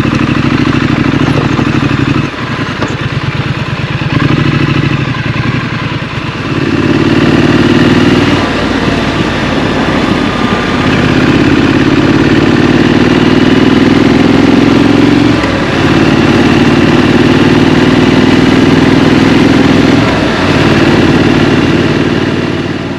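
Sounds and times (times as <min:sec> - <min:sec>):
motorcycle engine under throttle: 0:00.0 - 0:22.9.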